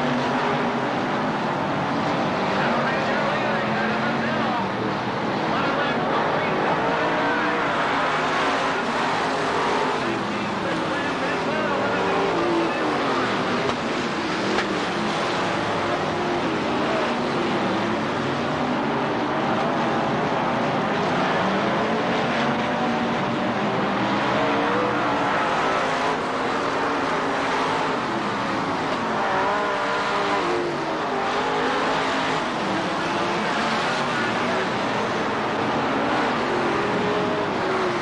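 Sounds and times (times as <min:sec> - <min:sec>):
race car engines roaring: 0:00.0 - 0:38.0.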